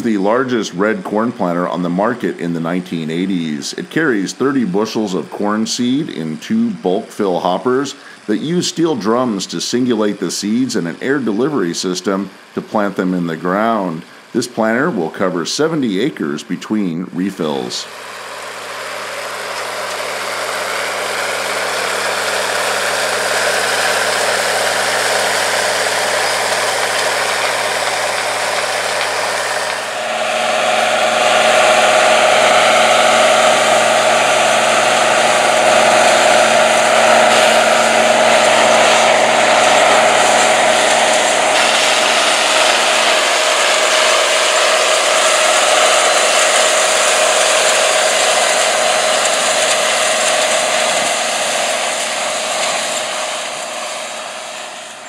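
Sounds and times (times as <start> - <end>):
tractor diesel engine running: 0.0 - 16.1, 17.4 - 55.0
steady whine: 0.0 - 55.0.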